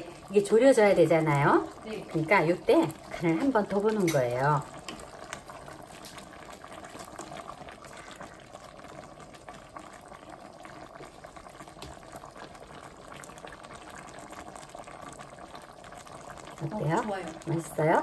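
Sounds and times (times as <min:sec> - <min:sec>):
stew bubbling in a pot: 0:00.0 - 0:18.0.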